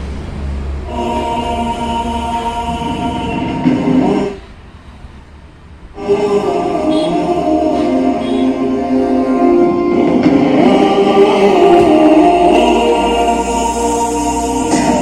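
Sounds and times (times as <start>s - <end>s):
song with several singing voices: 0.8s - 5.0s, 5.8s - 15.0s.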